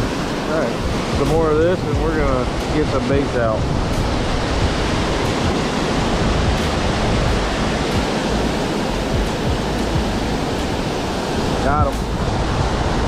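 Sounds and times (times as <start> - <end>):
water roaring over a dam: 0.0 - 13.0.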